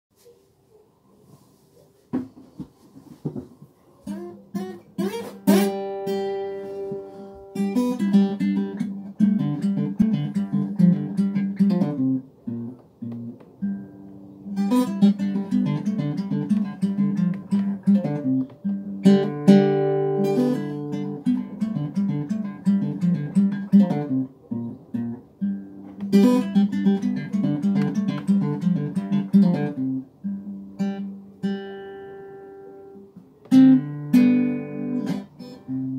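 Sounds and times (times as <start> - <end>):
acoustic guitar strumming: 4.1 - 35.9.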